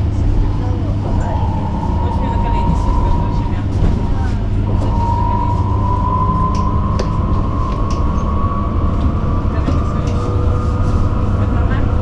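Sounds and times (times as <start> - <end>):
bus low rumble: 0.0 - 12.0.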